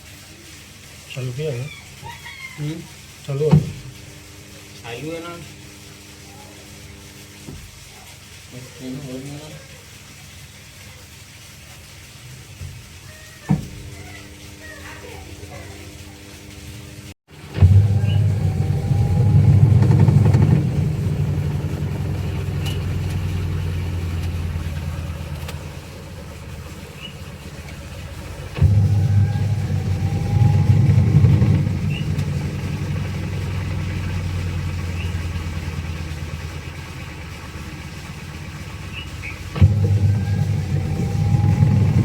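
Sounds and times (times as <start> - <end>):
washing machine motor humming: 0.6 - 7.9, 12.4 - 42.0.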